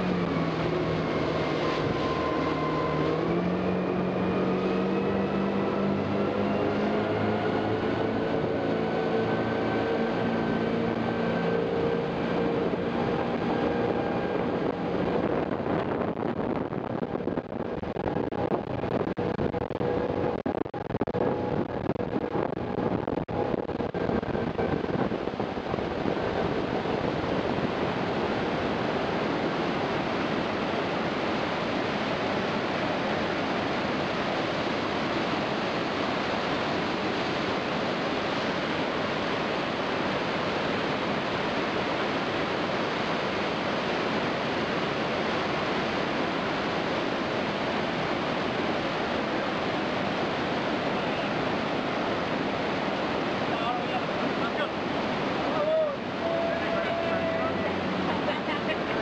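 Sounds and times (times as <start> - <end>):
rushing water of waterfall: 0.0 - 59.0.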